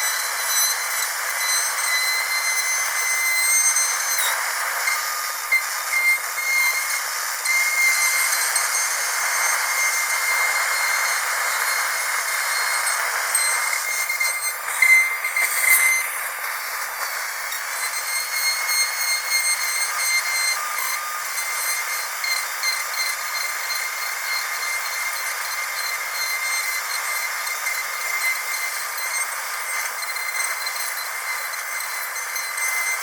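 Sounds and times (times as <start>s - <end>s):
dental drill whining: 0.0s - 33.0s.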